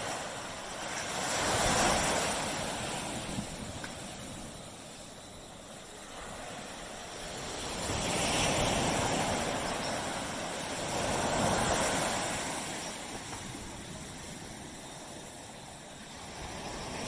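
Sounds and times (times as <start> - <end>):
ocean waves washing onto beach: 0.0 - 17.0.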